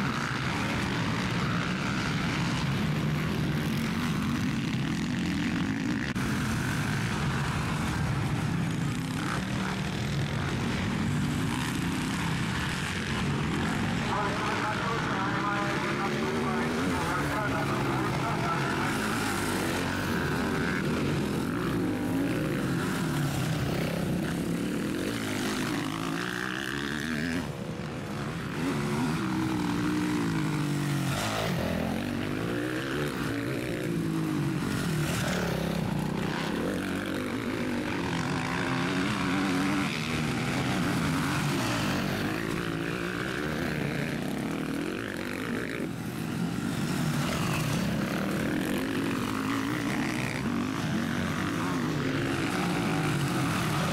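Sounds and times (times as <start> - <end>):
motocross engines revving: 0.0 - 53.9.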